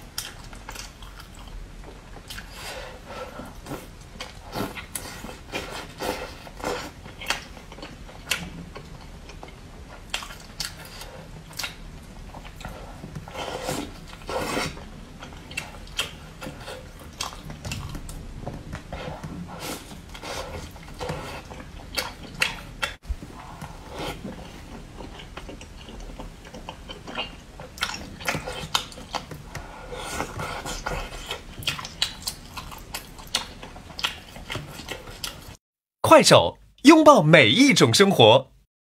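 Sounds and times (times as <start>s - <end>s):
wet chewing of food: 0.0s - 18.2s, 18.8s - 35.6s.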